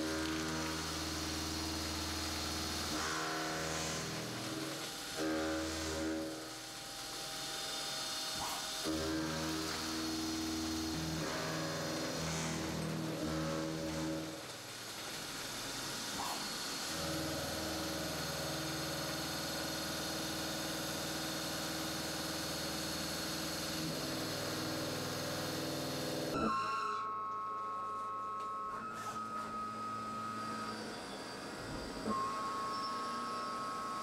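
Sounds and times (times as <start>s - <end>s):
two-tone high whine: 0.0s - 14.4s, 16.9s - 34.0s.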